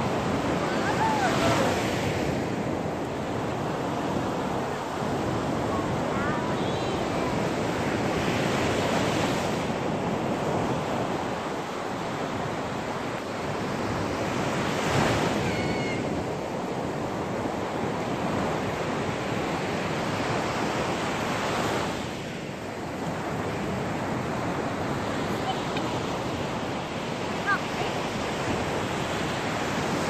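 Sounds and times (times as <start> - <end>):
waves washing up a shore: 0.0 - 30.0.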